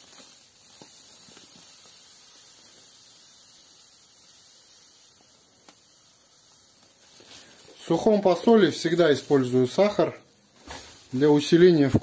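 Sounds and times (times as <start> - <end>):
sugar streaming onto salt: 0.0 - 12.0.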